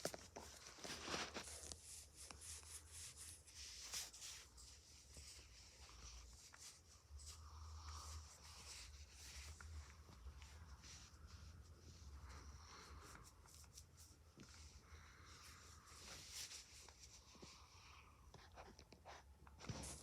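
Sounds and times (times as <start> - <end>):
faint rustling and rubbing: 0.0 - 20.0.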